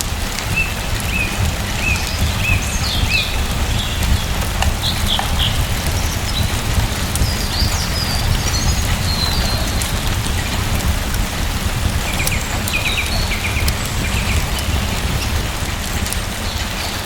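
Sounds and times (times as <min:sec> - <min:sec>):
sharp ticks: 0:00.0 - 0:17.0
small birds chirping: 0:00.0 - 0:17.0
steady rain: 0:00.0 - 0:17.0.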